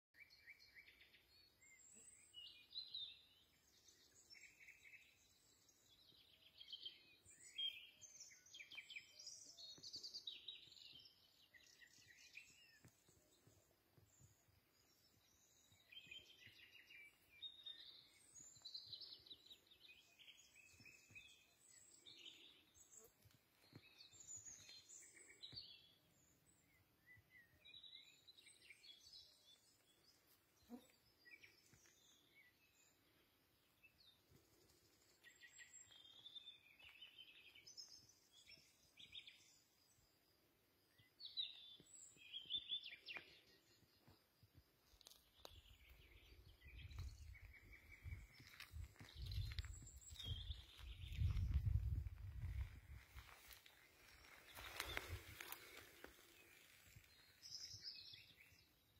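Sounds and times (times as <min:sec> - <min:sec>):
songbirds chirping: 0:00.1 - 0:58.9.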